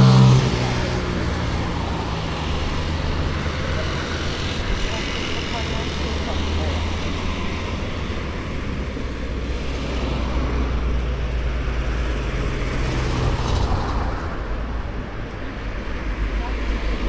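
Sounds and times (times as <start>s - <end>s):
engine rumble: 0.0s - 17.0s
tyres hissing on road: 0.0s - 17.0s.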